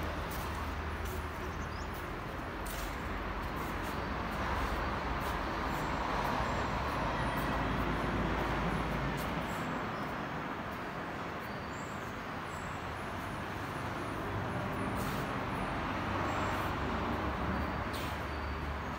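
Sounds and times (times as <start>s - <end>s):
vehicle rumble and hiss: 0.0s - 18.9s.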